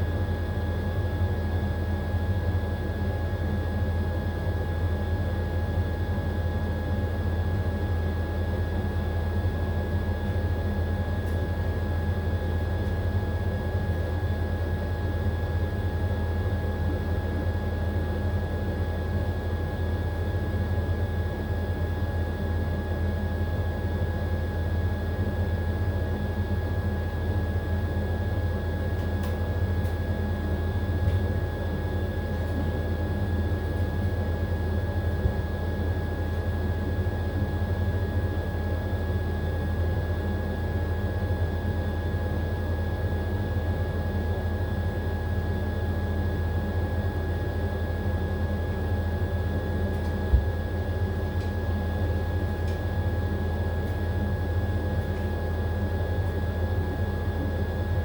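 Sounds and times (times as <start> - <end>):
washing machine spinning: 10.8 - 58.0.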